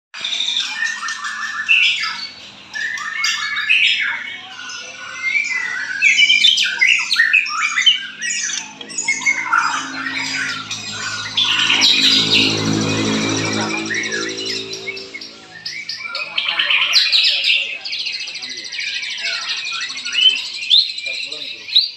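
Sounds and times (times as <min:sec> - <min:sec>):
songbirds chirping and trilling: 0:00.2 - 0:21.9.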